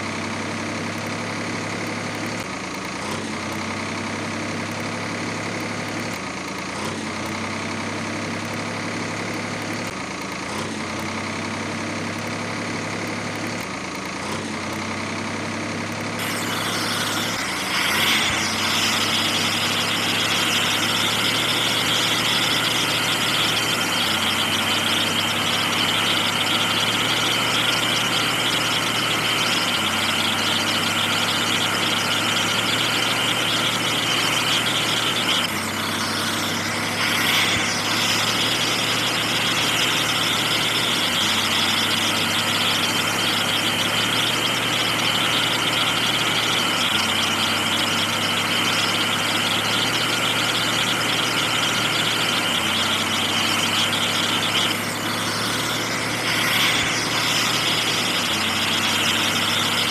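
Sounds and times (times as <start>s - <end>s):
heavy truck engine running: 0.0s - 59.9s.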